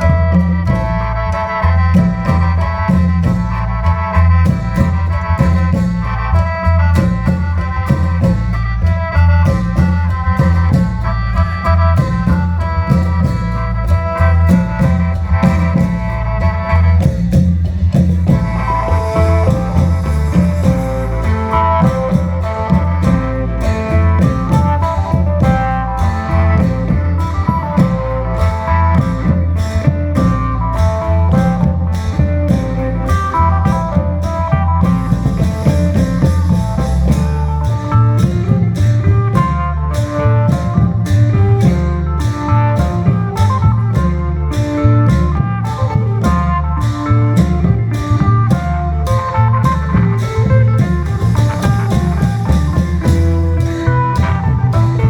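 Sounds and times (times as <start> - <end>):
fast melody line: 0.0 - 55.0
folk music with drums: 0.0 - 55.0.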